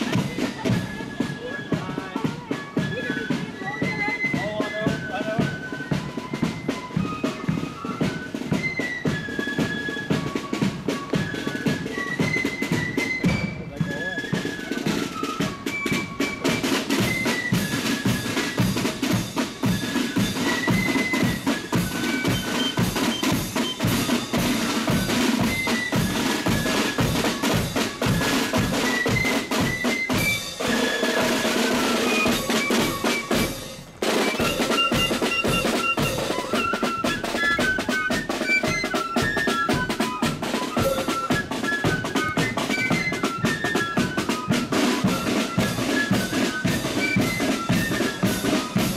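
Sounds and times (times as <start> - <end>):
high flute melody: 0.0 - 48.9
rattling side drums: 2.5 - 48.9.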